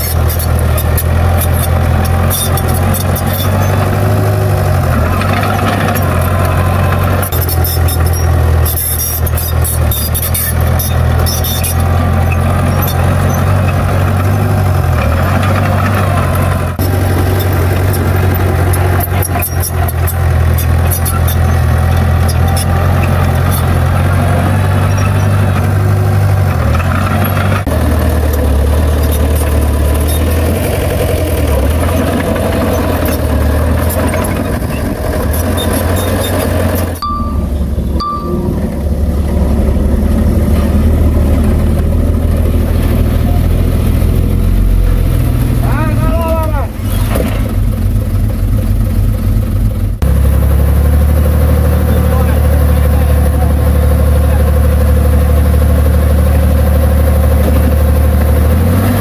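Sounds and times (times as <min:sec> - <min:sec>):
high squeaking and clattering: 0:00.0 - 0:50.4
bulldozer diesel engine running: 0:00.0 - 0:59.0.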